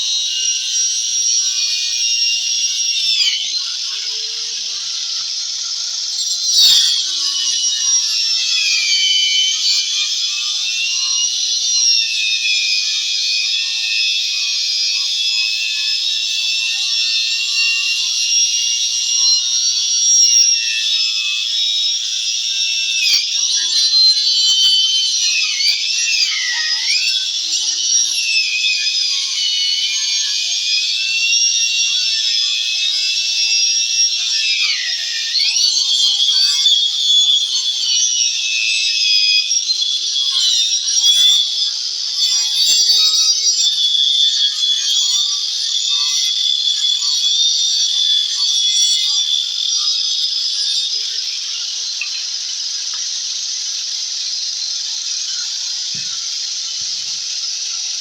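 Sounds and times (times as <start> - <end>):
power tool whining on wood: 0.0 - 58.0.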